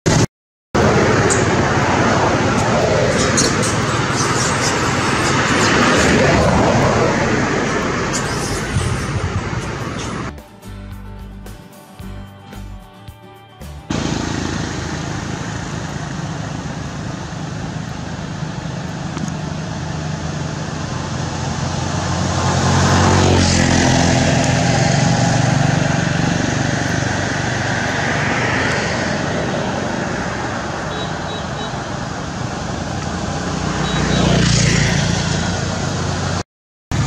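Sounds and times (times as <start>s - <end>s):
road traffic: 0.0s - 37.0s
vehicle passing close: 0.8s - 10.3s, 13.9s - 37.0s.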